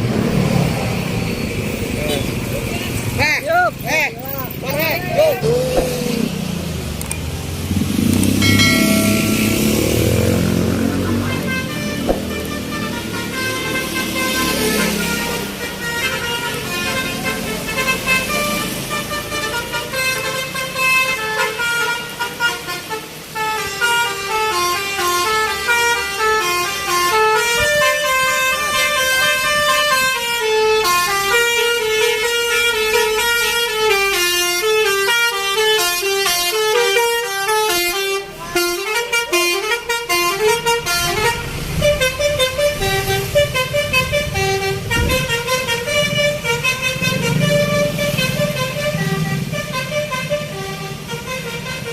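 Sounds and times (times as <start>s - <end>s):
bus musical horn: 8.2s - 51.9s.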